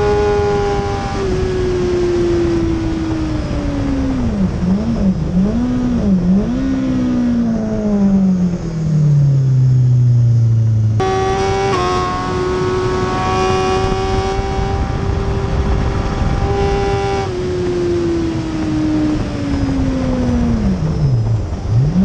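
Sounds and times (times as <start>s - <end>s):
motorcycle engine downshifting: 0.0s - 22.0s.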